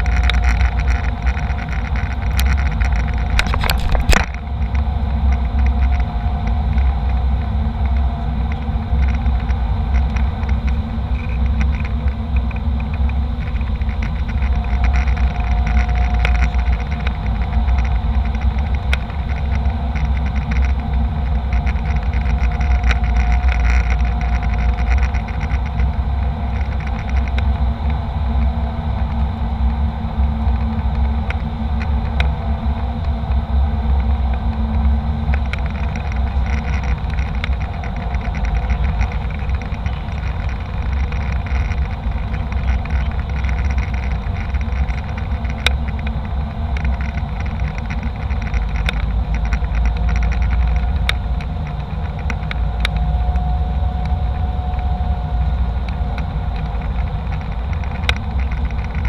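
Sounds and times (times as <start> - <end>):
faint steady whine: 0.0 - 59.0
jet engine and airflow rumble: 0.0 - 59.0.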